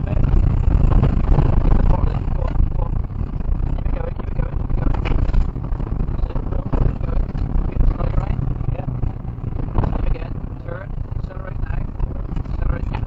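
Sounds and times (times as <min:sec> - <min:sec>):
rally car engine working hard: 0:00.0 - 0:13.0
rumble and rattle on gravel: 0:00.0 - 0:13.0.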